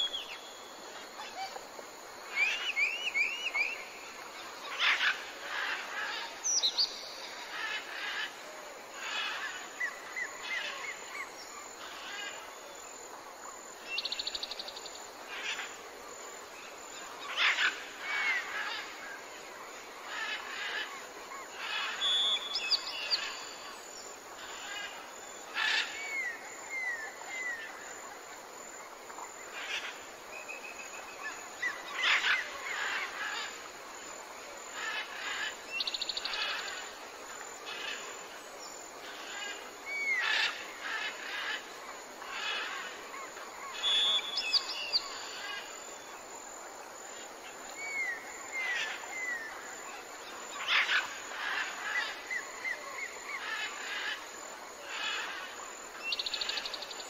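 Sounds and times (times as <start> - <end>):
faint hiss: 0.0 - 57.0.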